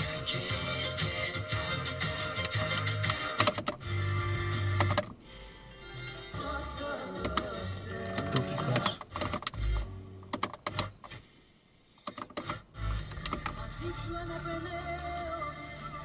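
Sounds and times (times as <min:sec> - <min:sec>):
radio music: 0:00.0 - 0:11.3, 0:12.0 - 0:16.0.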